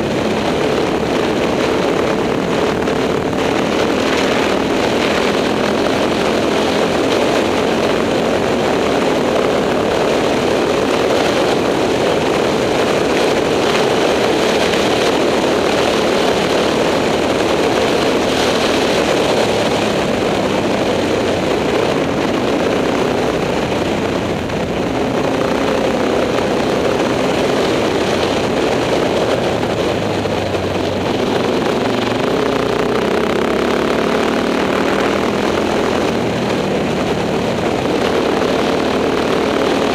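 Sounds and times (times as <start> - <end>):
motorcycle engine revving: 0.0 - 39.9
steady rushing noise: 0.0 - 39.9.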